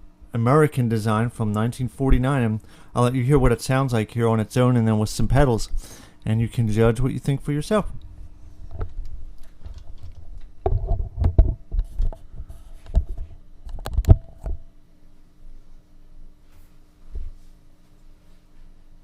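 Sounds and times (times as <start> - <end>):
amplifier hum: 0.0 - 19.0.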